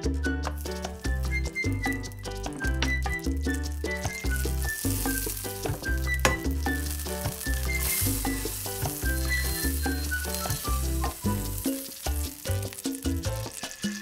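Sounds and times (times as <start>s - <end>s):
background music with plucked melody: 0.0s - 14.0s
butter sizzling in frying pan: 0.5s - 14.0s.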